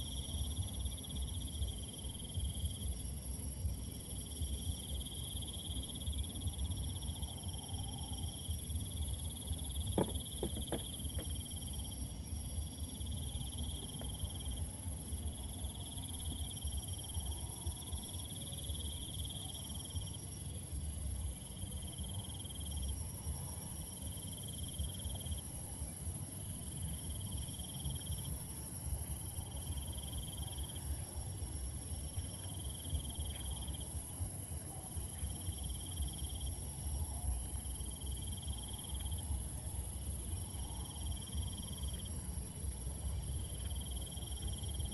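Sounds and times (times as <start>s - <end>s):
high insect trill: 0.0s - 44.9s
low pulsing insect trill: 0.0s - 44.9s.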